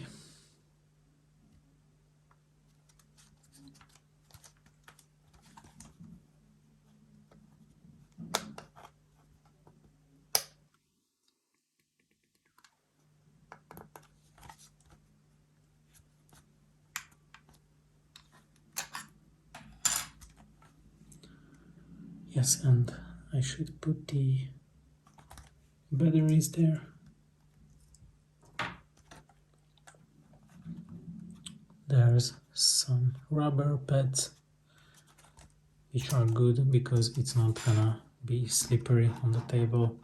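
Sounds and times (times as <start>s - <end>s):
low steady hum: 0.0s - 40.0s.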